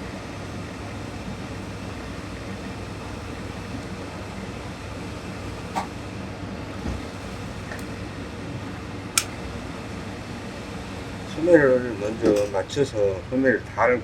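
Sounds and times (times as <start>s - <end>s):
fan hum and hiss: 0.0s - 14.0s.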